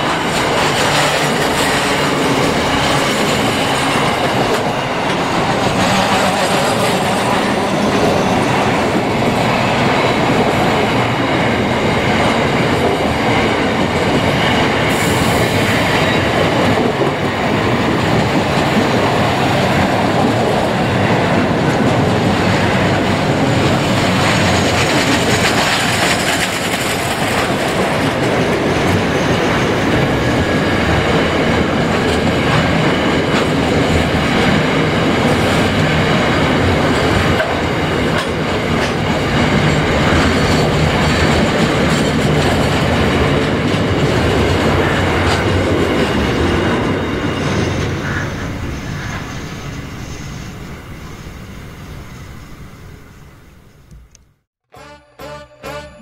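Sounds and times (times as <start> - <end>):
train wheels rumbling and clicking: 0.0 - 49.9.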